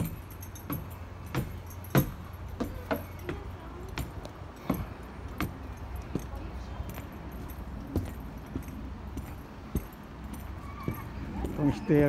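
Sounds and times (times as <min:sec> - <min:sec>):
footsteps on wooden stairs: 0:00.0 - 0:12.0.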